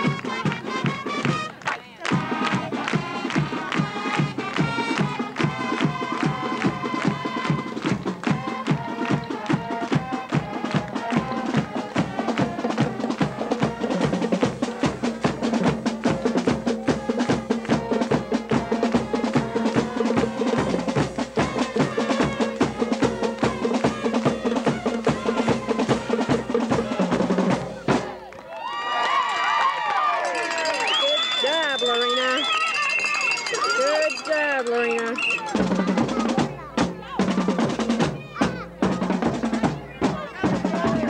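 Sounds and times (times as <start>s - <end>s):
marching band playing: 0.0s - 28.3s, 30.2s - 41.0s.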